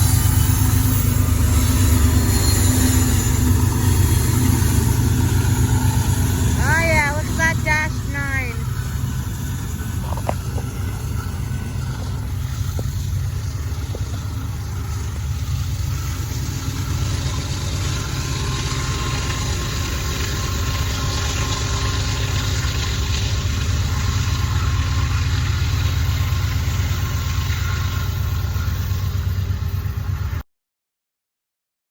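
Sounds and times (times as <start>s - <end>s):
freight train rumbling: 0.0s - 30.4s.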